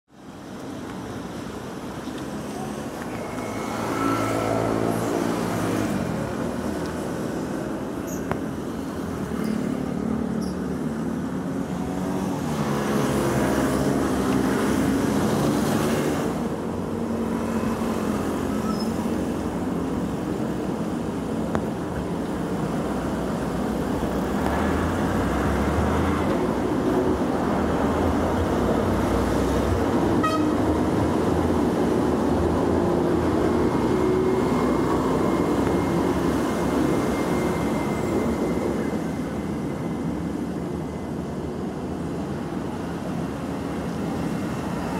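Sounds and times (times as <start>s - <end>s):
road traffic: 0.1s - 44.9s.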